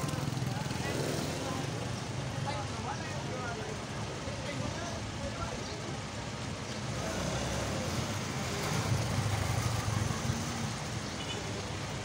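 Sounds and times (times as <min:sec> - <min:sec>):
street noise: 0:00.0 - 0:12.0
vehicle engine rumbling: 0:00.0 - 0:12.0.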